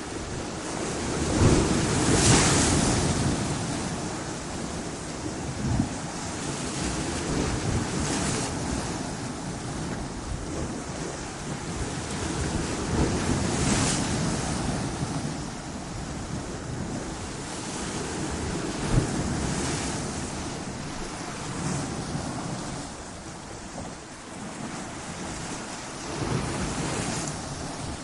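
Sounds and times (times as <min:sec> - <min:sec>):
ocean surf breaking on rocks: 0:00.0 - 0:28.0.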